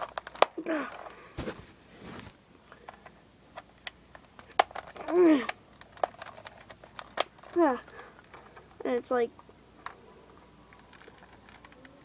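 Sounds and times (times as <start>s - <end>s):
plastic clicks and rustling: 0.0s - 1.2s, 2.7s - 12.0s.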